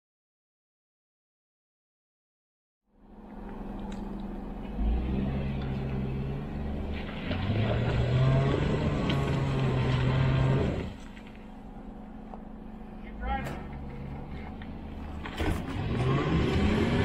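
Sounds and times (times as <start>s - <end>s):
car engine revving: 3.0s - 17.0s.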